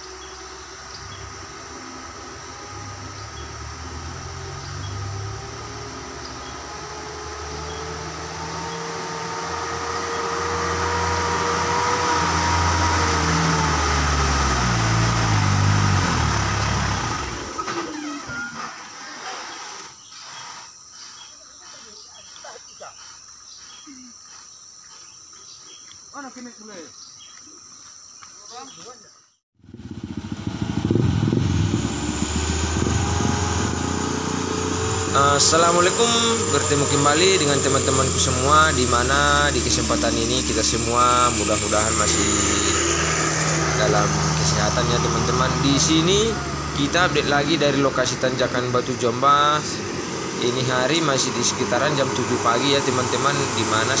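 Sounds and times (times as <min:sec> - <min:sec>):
diesel truck engine labouring uphill: 0:00.0 - 0:18.9, 0:29.6 - 0:54.0.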